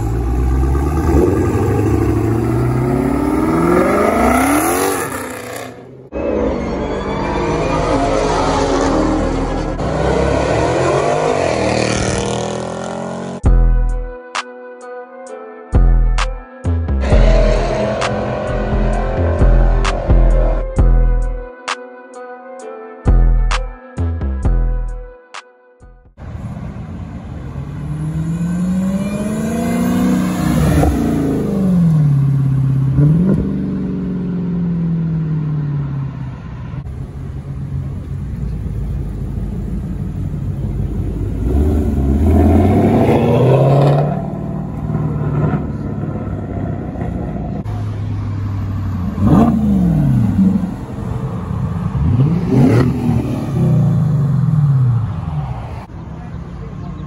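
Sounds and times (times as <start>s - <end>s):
car engine revving: 0.0s - 13.4s, 17.0s - 21.3s, 27.0s - 55.9s.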